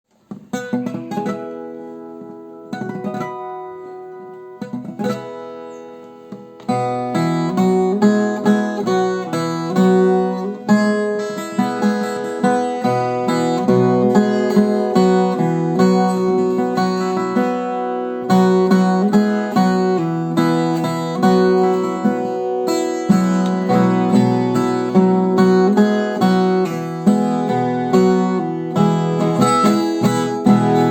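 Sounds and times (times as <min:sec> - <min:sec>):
rhythmic guitar strumming: 0:00.1 - 0:30.9
guitar chords ringing: 0:00.3 - 0:30.9.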